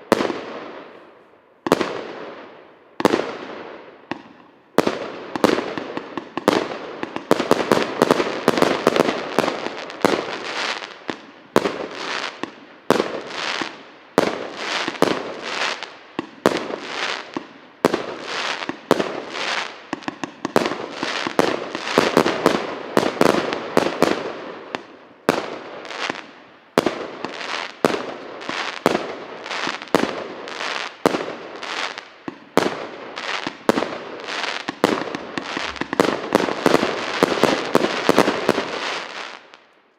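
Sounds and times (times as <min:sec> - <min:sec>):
fireworks firing in rapid succession: 0:01.7 - 0:39.6.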